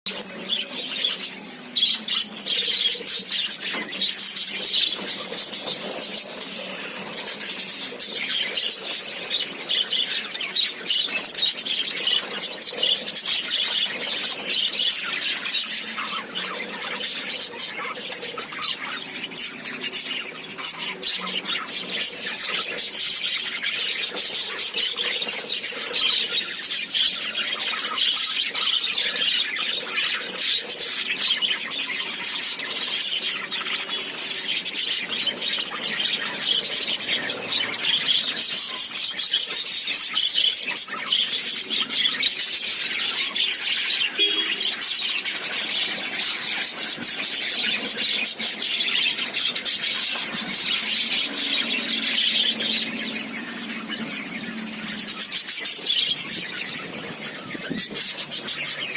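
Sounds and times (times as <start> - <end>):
lovebirds chattering and squealing: 0.1 - 58.9.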